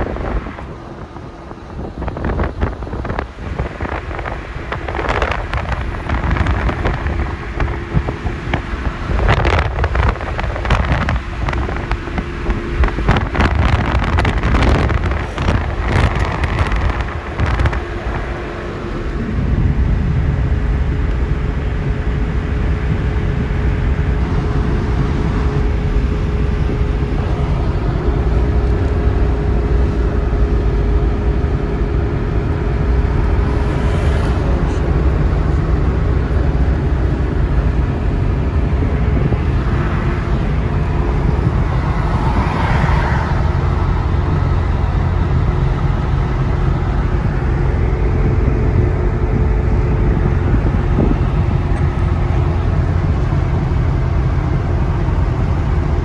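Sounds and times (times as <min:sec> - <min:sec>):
car driving at speed: 0:00.0 - 0:56.0
steady hum: 0:00.0 - 0:56.0.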